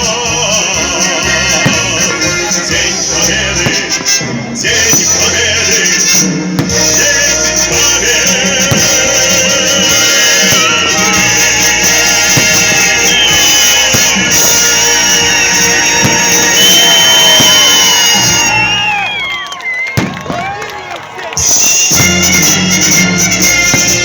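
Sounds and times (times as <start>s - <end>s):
music with singing and beat: 0.0s - 20.4s.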